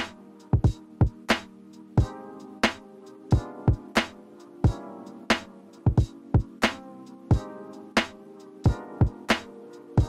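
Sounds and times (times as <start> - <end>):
laid-back drum beat: 0.0 - 9.5.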